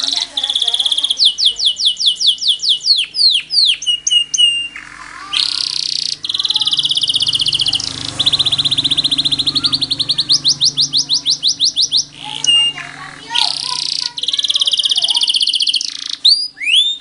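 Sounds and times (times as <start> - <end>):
songbird trilling: 0.0 - 17.0
downward-sweeping bird whistles: 0.4 - 4.8, 5.4 - 17.0.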